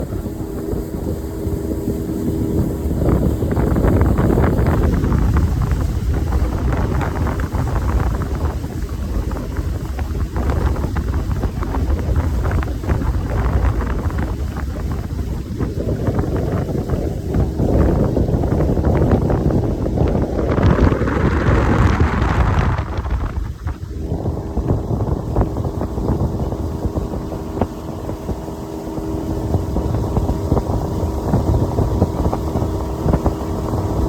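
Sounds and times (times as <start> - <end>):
steady motor hum: 0.0 - 34.0
wind buffeting microphone: 0.0 - 34.0.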